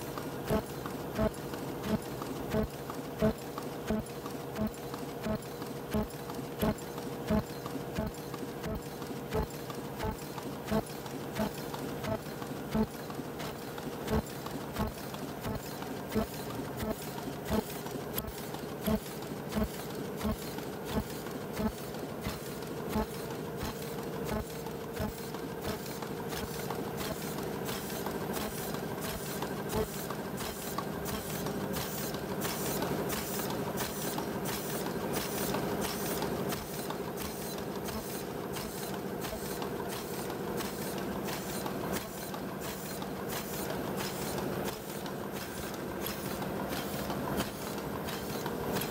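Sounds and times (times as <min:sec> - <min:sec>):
machine clacking: 0:00.0 - 0:48.9
machine whirring: 0:00.0 - 0:48.9.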